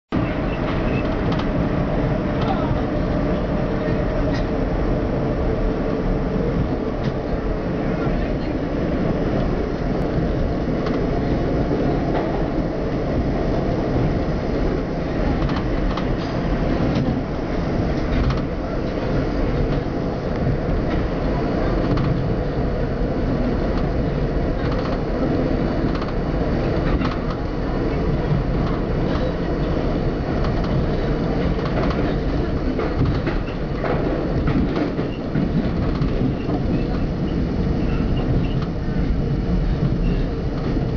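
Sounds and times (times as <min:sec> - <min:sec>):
subway train wheels rumbling: 0:00.1 - 0:40.9.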